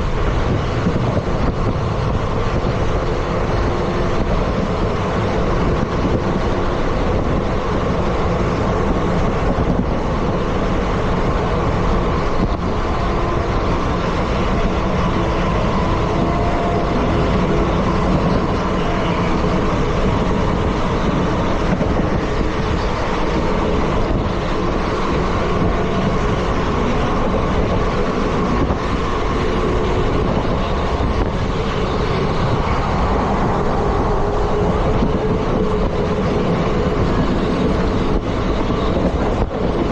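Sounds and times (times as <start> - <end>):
train coach rumbling on track: 0.0 - 39.9.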